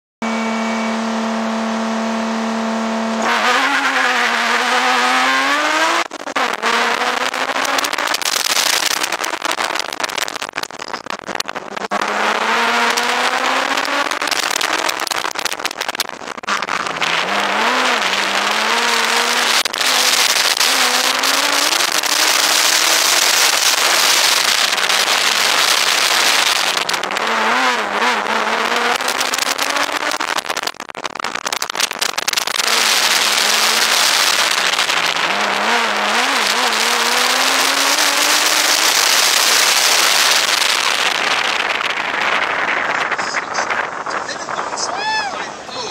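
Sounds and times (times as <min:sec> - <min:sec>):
car engine accelerating and slowing: 0:00.2 - 0:45.9
road noise: 0:00.2 - 0:45.9.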